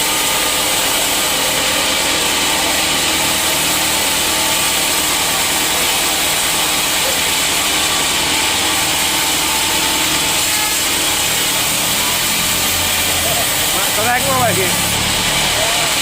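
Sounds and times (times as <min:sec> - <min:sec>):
sawmill saw cutting wood: 0:00.0 - 0:16.0.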